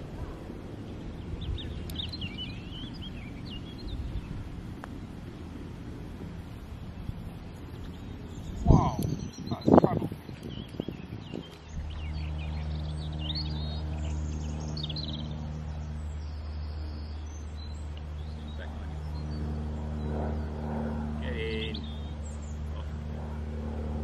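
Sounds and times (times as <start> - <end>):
birds chirping: 0.0 - 24.0
steady engine drone: 0.0 - 24.0.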